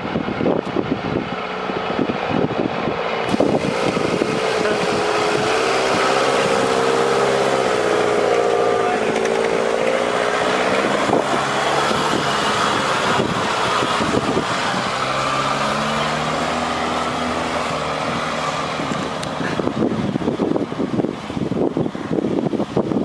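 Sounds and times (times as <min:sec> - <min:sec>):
off-road engines running: 0:00.0 - 0:23.0.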